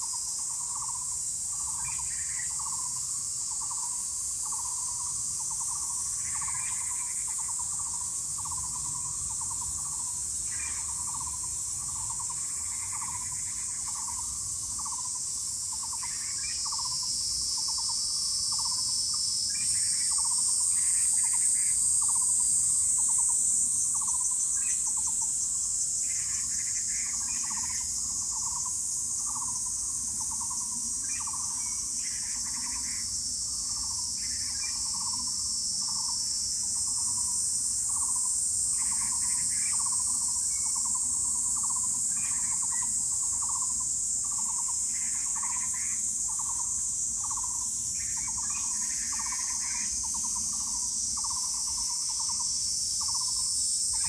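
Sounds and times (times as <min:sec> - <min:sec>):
high-pitched insect buzz: 0:00.0 - 0:54.0.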